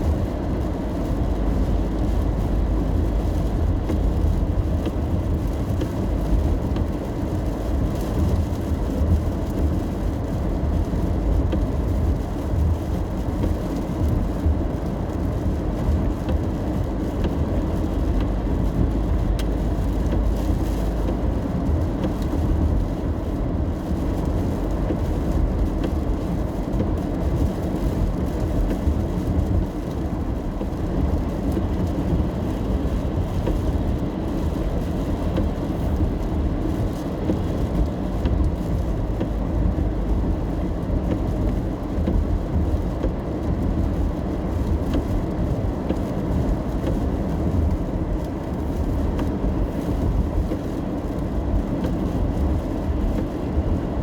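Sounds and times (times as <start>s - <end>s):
car interior road noise: 0.0s - 54.0s.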